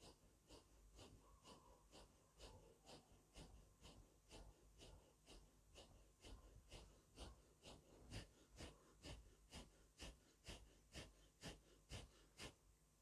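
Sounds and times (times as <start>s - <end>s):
rapid rhythmic forceful breathing: 0.0s - 13.0s.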